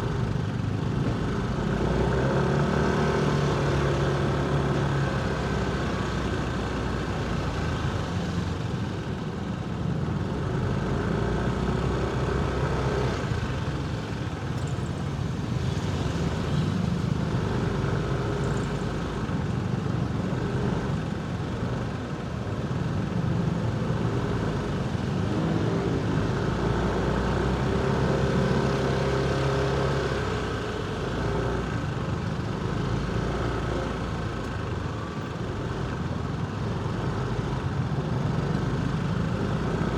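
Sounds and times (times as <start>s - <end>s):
city traffic rumble: 0.0s - 39.9s.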